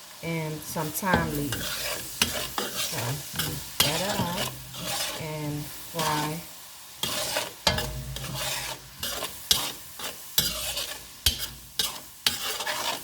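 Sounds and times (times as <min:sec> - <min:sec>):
food sizzling in a pan: 0:00.0 - 0:13.0
utensil scraping a frying pan: 0:00.7 - 0:13.0.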